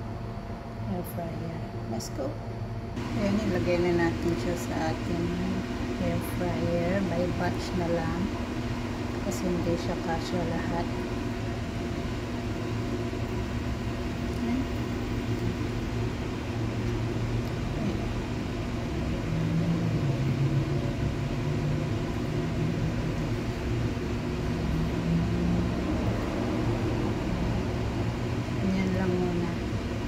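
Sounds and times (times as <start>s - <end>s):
low machine hum: 0.0s - 30.0s
second low humming tone: 0.0s - 30.0s.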